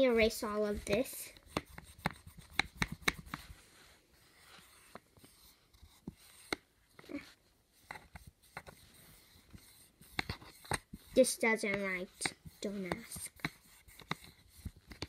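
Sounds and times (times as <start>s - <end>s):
eraser rubbing on plastic board: 0.0s - 15.0s.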